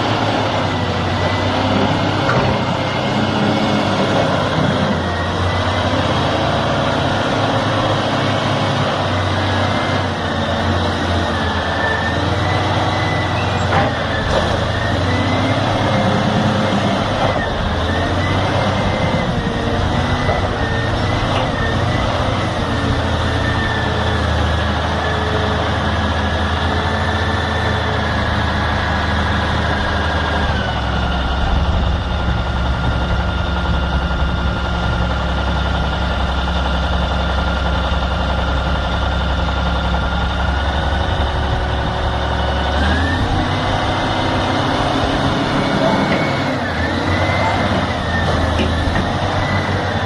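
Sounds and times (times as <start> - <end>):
heavy vehicle engine drone: 0.0 - 50.0.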